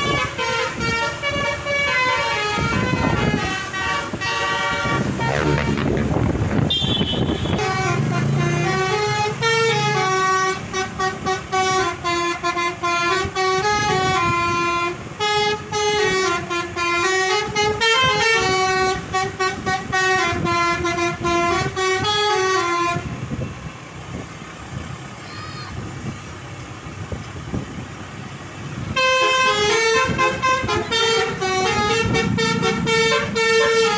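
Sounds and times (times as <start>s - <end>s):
musical bus horn melody: 0.0s - 23.7s, 28.8s - 33.9s.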